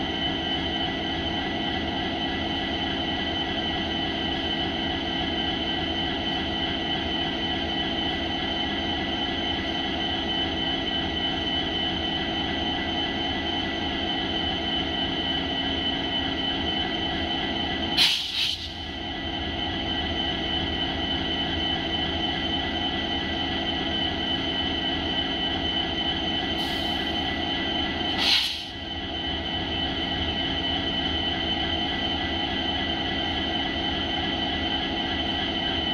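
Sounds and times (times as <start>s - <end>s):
diesel locomotives idling: 0.0s - 35.9s.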